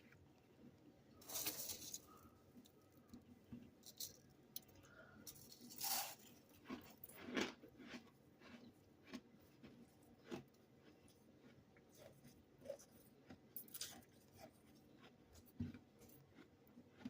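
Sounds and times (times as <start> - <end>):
frost being chewed: 0.0 - 17.0.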